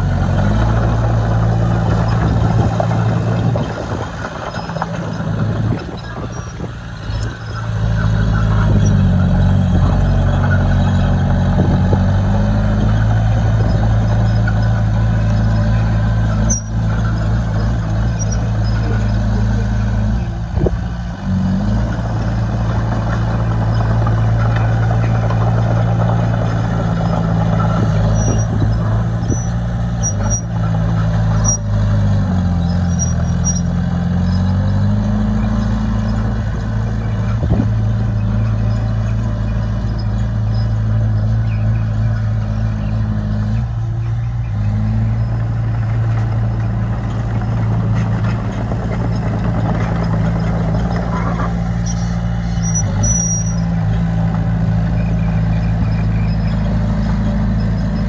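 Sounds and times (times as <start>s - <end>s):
heavy diesel engine working: 0.0s - 58.0s.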